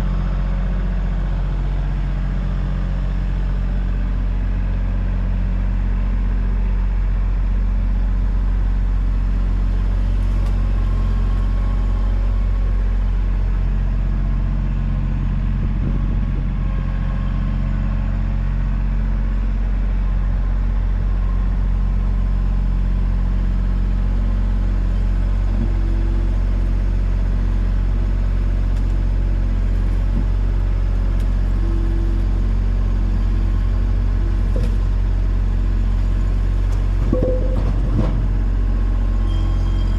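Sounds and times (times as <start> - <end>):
large engine rumbling: 0.0 - 39.9.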